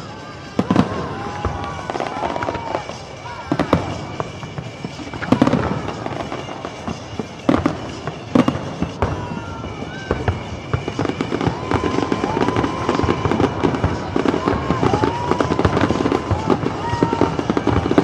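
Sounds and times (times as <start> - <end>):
fireworks bangs: 0.0 - 18.0
fireworks crackle: 0.0 - 18.0
fireworks whistling: 0.0 - 18.0.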